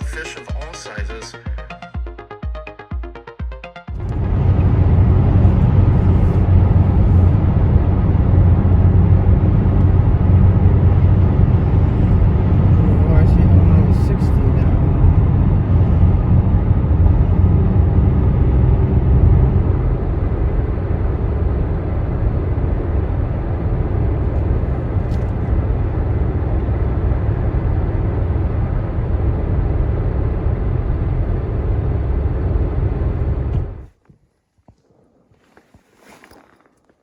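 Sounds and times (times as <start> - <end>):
vehicle rumble: 3.9 - 34.0.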